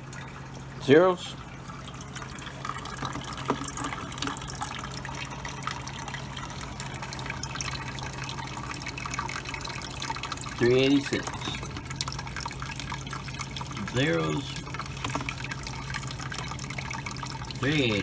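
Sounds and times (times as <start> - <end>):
steady low hum: 0.0 - 18.0
water trickling in filter: 0.0 - 18.0.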